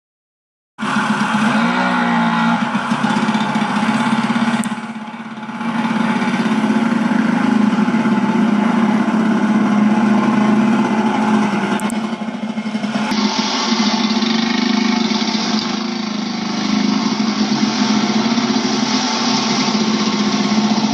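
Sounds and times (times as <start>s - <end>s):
snowmobile engine running: 0.8s - 20.9s.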